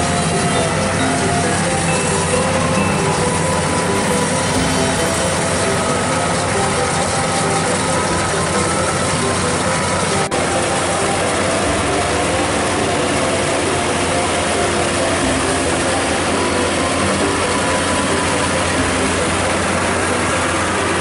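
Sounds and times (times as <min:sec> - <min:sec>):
combine harvester engine running: 0:00.0 - 0:21.0.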